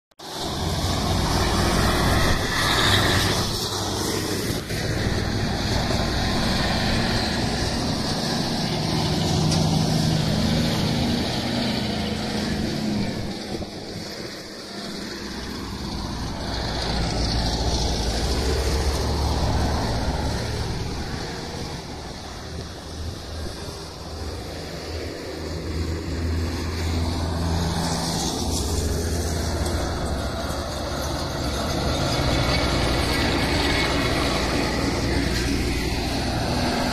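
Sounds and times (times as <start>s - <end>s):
trucks passing on highway: 0.2s - 36.9s.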